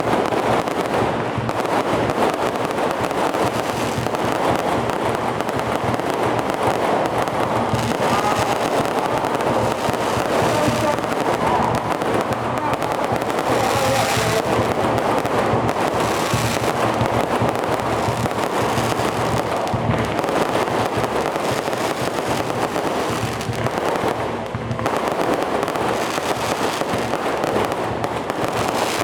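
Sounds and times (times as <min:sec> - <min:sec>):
fireworks crackling bangs: 0:00.0 - 0:29.0.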